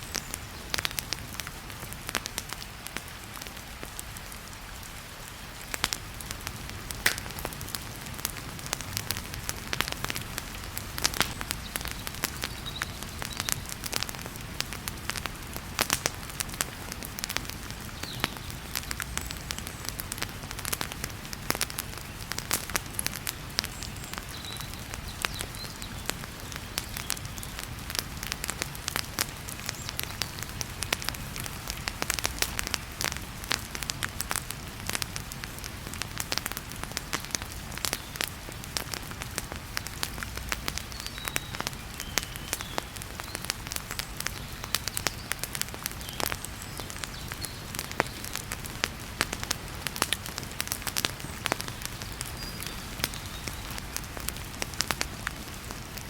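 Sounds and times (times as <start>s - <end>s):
wood fire crackling and popping: 0.0s - 4.8s, 5.6s - 56.0s
heavy rain hiss: 0.0s - 56.0s.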